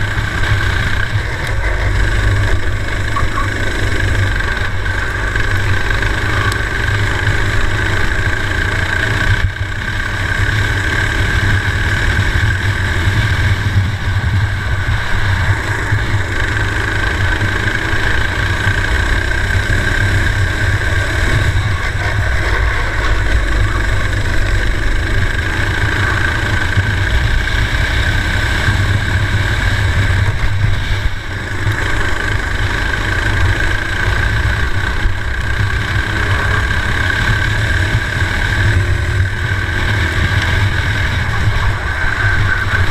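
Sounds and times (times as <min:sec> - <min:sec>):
kart engine running hard: 0:00.0 - 0:42.9.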